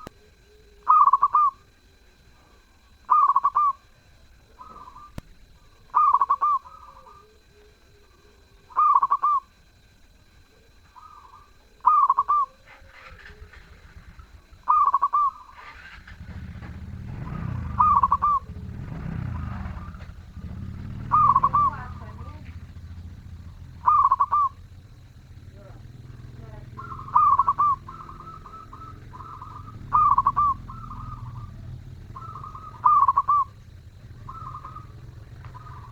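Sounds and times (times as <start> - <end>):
dove cooing: 0.0 - 35.9.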